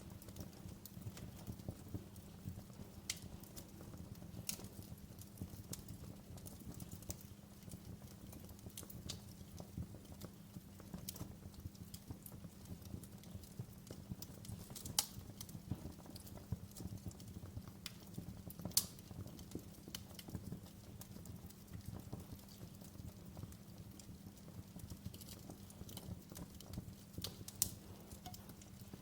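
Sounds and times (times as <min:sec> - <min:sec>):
low rumble of flames: 0:00.0 - 0:29.0
wood fire snaps and pops: 0:00.0 - 0:29.0.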